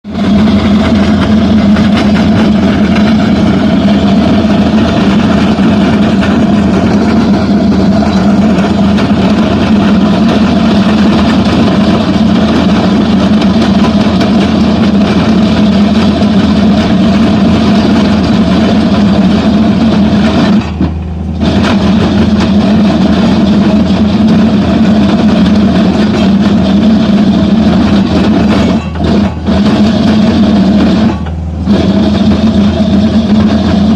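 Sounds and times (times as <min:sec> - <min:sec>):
diesel engine under load: 0:00.0 - 0:33.9
drum grinding concrete: 0:00.0 - 0:33.9.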